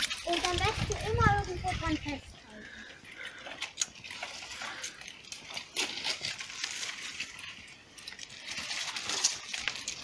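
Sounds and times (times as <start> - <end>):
dry branches crackling and rustling: 0.0 - 10.0.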